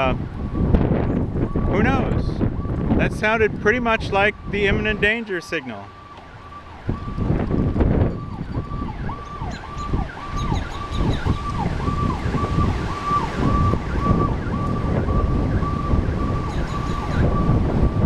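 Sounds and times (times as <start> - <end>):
wind noise on microphone: 0.0 - 5.5, 6.2 - 18.0
siren cycling fast: 0.4 - 18.0.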